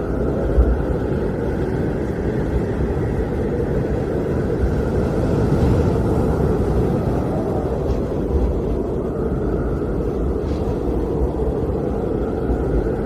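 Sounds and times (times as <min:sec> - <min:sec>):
blizzard wind rumbling: 0:00.0 - 0:13.0.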